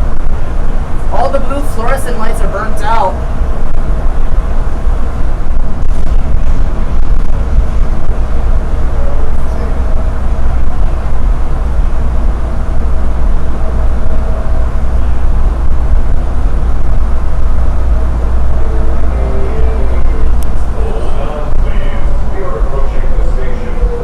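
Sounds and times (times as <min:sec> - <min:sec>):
faint whine: 0:00.0 - 0:24.0
train car rumbling: 0:00.0 - 0:24.0.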